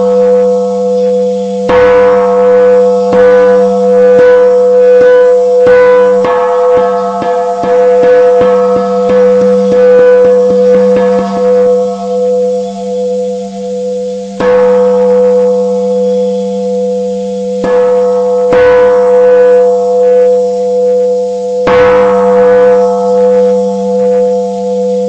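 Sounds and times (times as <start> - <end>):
large temple bell ringing: 0.0 - 25.0.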